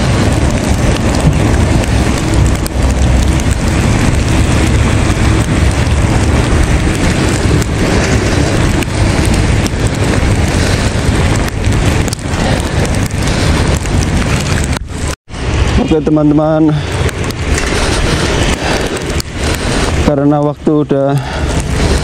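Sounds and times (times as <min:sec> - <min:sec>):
rain-like hiss: 0:00.0 - 0:22.0
wind buffeting microphone: 0:00.0 - 0:22.0.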